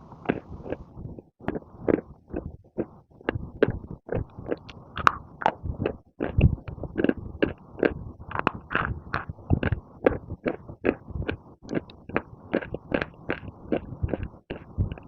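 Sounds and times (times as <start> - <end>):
baked clay crunching while chewed: 0.1 - 0.8, 1.4 - 15.0.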